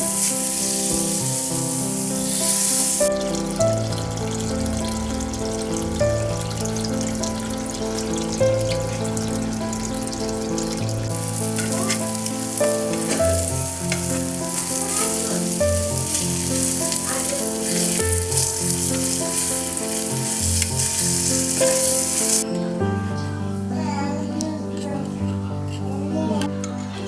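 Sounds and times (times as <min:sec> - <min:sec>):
food sizzling in a pan: 0:00.0 - 0:22.4.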